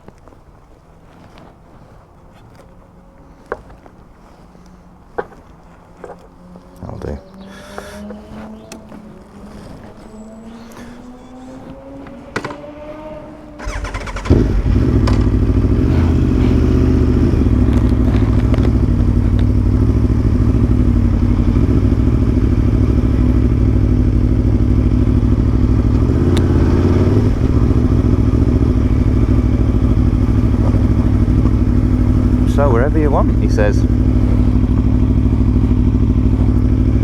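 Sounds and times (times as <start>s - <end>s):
motorcycle engine starting and idling: 5.2s - 37.0s.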